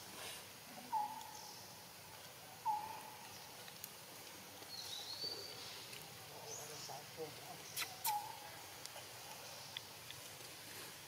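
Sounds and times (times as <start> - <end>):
faint forest ambience: 0.0 - 11.0.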